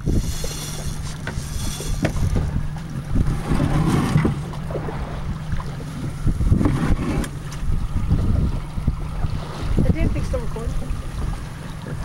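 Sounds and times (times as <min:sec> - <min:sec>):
steady low hum: 0:00.0 - 0:12.0
water sloshing around boat: 0:00.0 - 0:12.0
wind buffeting microphone: 0:00.0 - 0:12.0.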